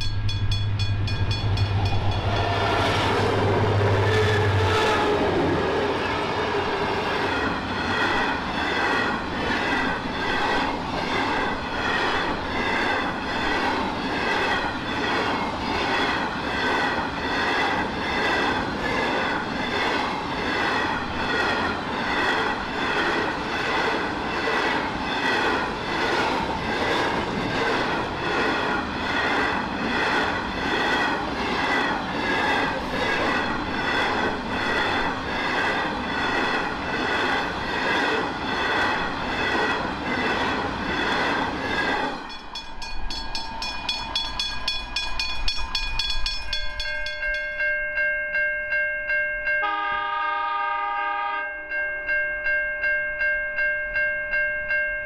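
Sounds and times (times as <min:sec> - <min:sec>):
train wheels clattering on rails: 0:00.0 - 0:47.6.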